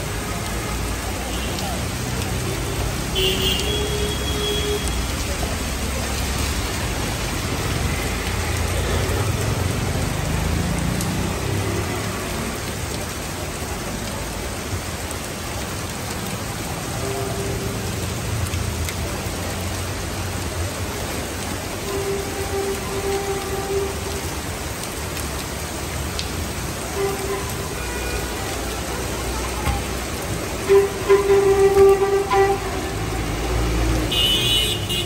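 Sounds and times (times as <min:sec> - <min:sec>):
heavy rain on pavement: 0:00.0 - 0:35.0.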